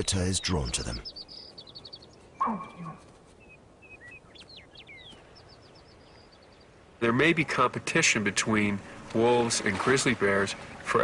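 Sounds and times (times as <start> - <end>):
small birds chirping: 0.0 - 9.5.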